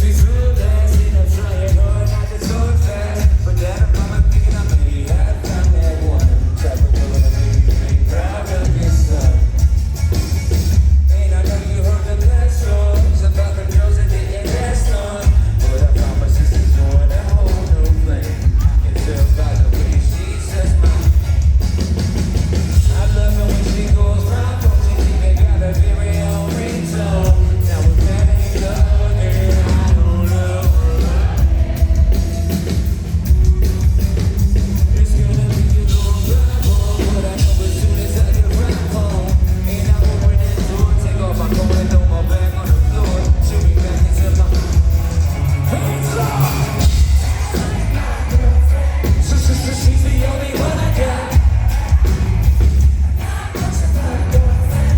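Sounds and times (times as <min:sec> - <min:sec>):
heavy booming bass line: 0:00.0 - 0:54.9
live band playing pop-rap: 0:00.0 - 0:54.9
sung vocals: 0:00.0 - 0:54.9.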